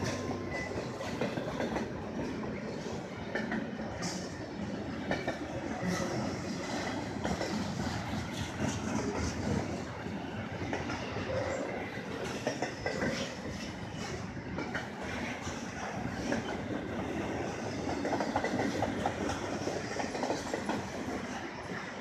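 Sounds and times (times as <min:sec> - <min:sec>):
wheels clacking over rail joints: 0:00.0 - 0:21.9
freight train rolling past: 0:00.0 - 0:22.0.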